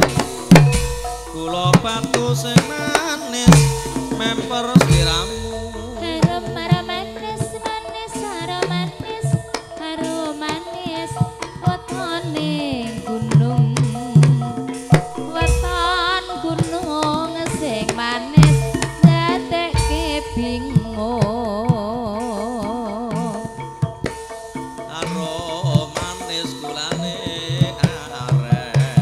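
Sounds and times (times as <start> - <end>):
person singing with wavering voice: 0.0 - 23.8, 24.9 - 29.0
sustained metallic notes: 0.0 - 28.9
hand drums beating quick rhythm: 0.0 - 29.0.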